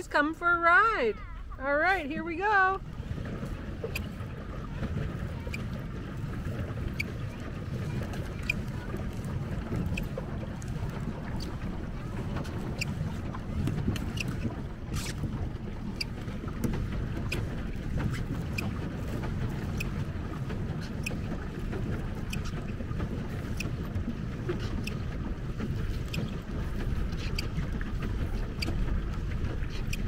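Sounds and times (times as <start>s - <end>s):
water sloshing against hull: 0.0s - 30.0s
wind rumble on microphone: 0.0s - 30.0s.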